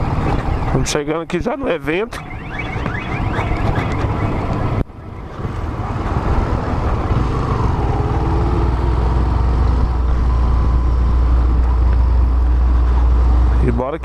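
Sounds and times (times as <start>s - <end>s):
wind rumbling on microphone: 0.0s - 13.6s.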